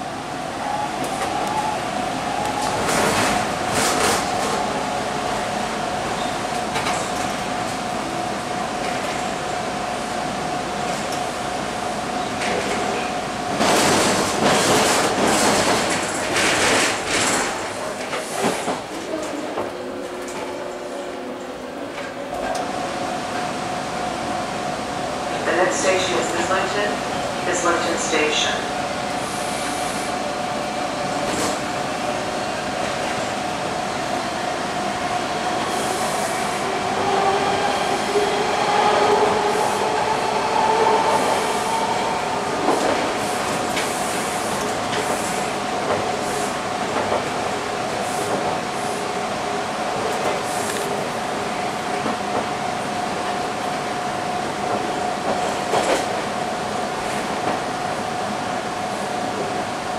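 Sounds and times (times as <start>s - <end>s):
rumbling rail noise: 0.0s - 59.9s
subway train whine: 0.0s - 59.9s.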